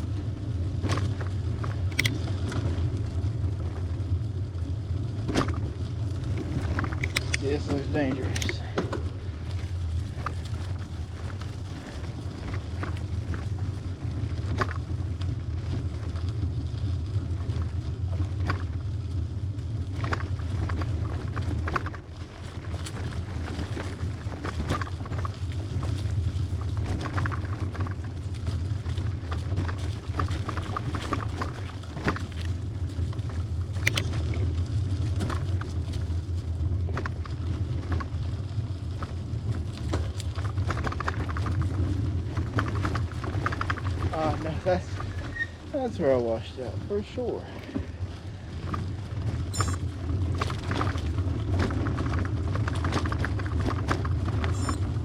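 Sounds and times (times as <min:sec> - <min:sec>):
bicycle clicks and rattles: 0:00.0 - 0:55.0
rumble of bicycle tyres and wind: 0:00.0 - 0:55.0.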